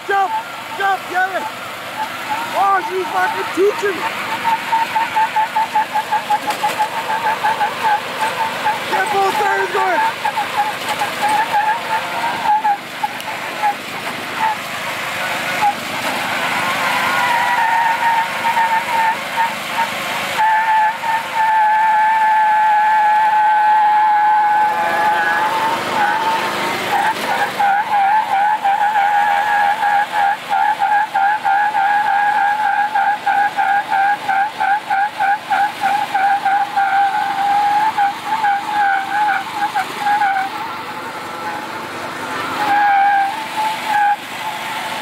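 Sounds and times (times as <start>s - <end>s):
mower engine at full throttle: 0.0s - 45.0s
tyres squealing: 0.0s - 45.0s.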